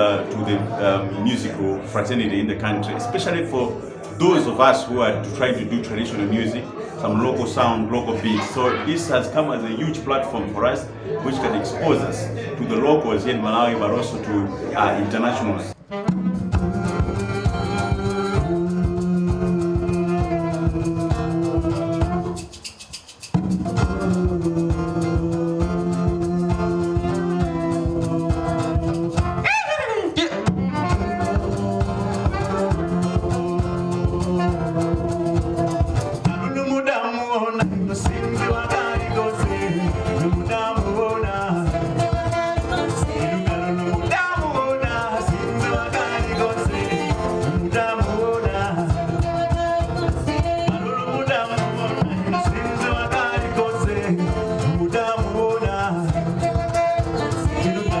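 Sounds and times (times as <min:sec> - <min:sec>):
live acoustic band with singing: 0:00.0 - 0:58.0.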